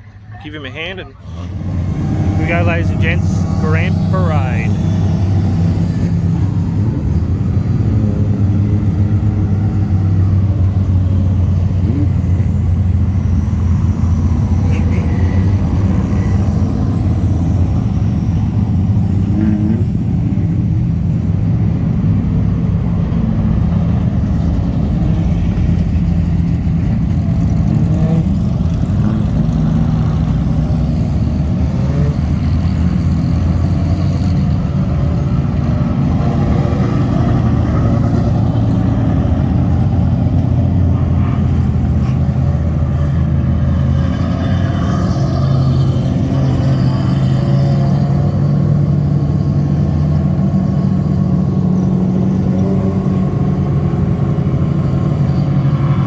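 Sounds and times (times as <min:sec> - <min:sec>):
race car engine droning: 0:00.0 - 0:56.0.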